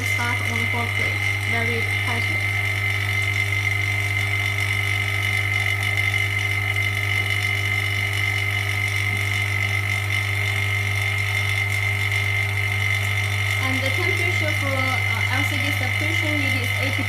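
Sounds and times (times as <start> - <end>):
steady high whine: 0.0 - 17.0
vacuum pump humming: 0.0 - 17.0.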